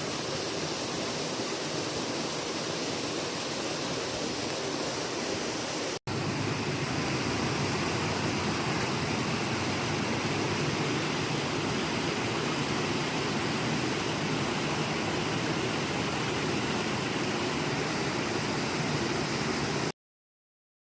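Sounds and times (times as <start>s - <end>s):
steady rushing noise: 0.0s - 19.9s.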